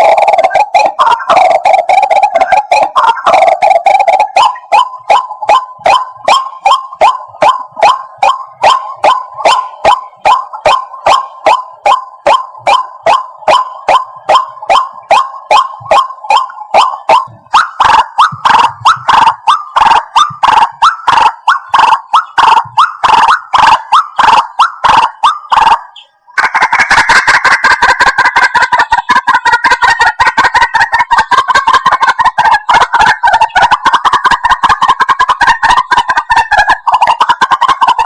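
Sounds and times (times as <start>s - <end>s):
waterhen calling: 0.0s - 38.0s.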